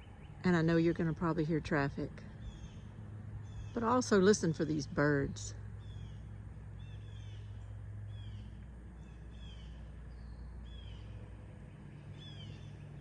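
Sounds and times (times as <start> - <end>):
distant lawn mower: 0.0 - 13.0
songbird chirping: 0.0 - 13.0.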